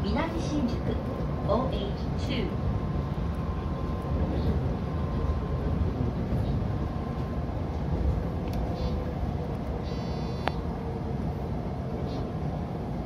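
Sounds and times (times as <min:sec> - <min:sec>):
train wheels rumbling on rails: 0:00.0 - 0:13.0
faint whine: 0:00.1 - 0:13.0.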